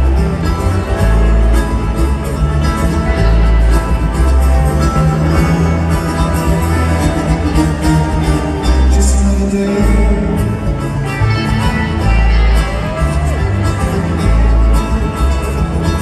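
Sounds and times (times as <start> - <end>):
acoustic guitar: 0.0 - 16.0
bass line: 0.0 - 16.0
electric slide guitar: 0.0 - 16.0.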